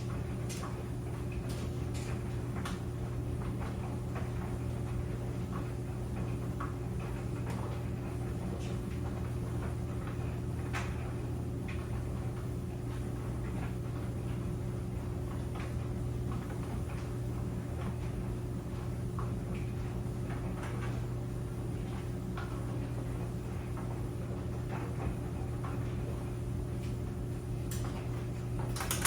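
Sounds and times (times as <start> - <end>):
clothes dryer humming: 0.0 - 29.0.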